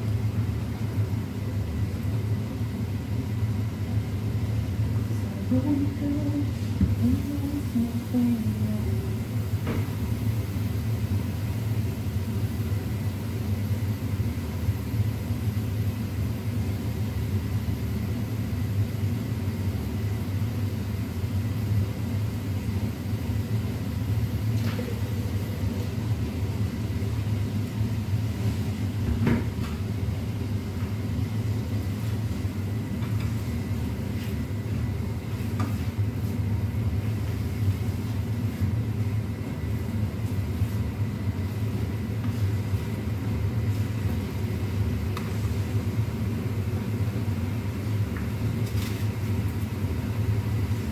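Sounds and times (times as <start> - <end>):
extractor fan rumbling: 0.0 - 50.9.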